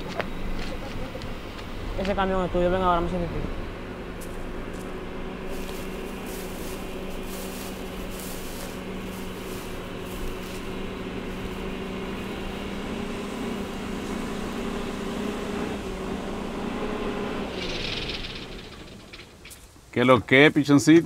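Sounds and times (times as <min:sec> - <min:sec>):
truck diesel engine running: 0:00.0 - 0:19.5.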